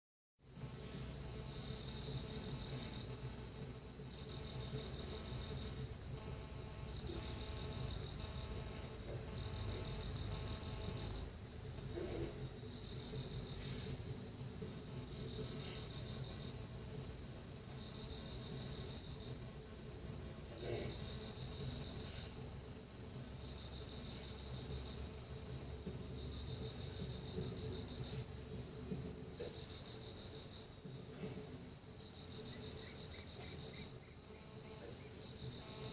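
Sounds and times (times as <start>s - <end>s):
insects trilling: 0.4s - 35.9s.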